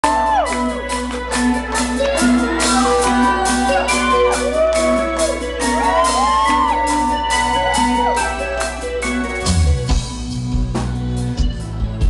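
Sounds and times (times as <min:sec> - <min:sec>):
metal band playing live: 0:00.0 - 0:12.0.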